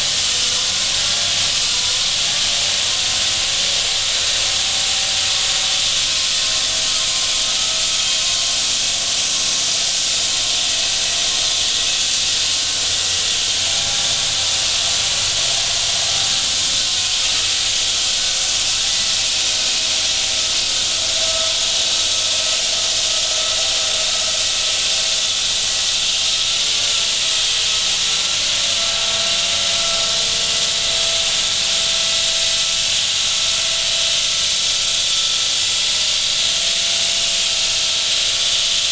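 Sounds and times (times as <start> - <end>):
saw blade cutting concrete: 0.0 - 38.9.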